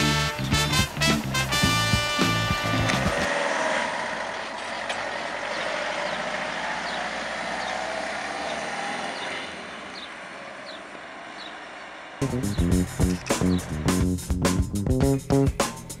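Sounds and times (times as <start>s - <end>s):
van driving past: 1.0s - 14.5s.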